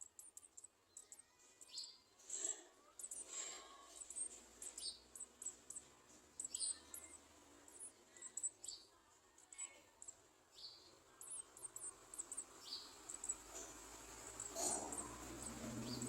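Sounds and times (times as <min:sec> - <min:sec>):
birds calling with high chips: 0:00.0 - 0:16.0.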